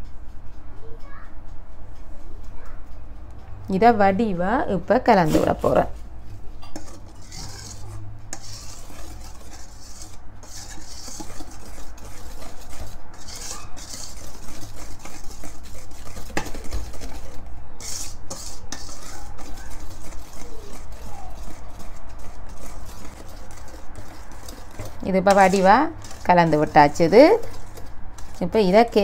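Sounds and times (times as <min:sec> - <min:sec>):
whisk scraping metal bowl: 0:05.1 - 0:06.0, 0:06.6 - 0:29.0.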